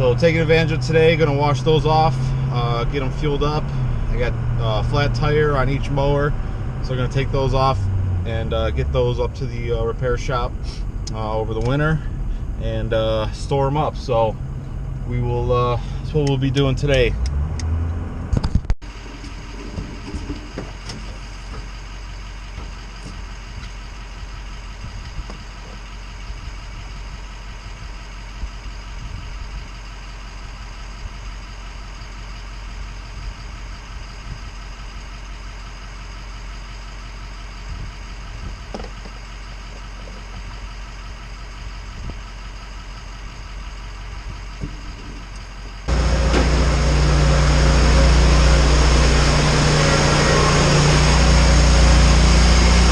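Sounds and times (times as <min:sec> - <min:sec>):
engine idling: 0:00.0 - 0:17.2, 0:18.8 - 0:52.9
loud deep engine roar: 0:00.0 - 0:52.9.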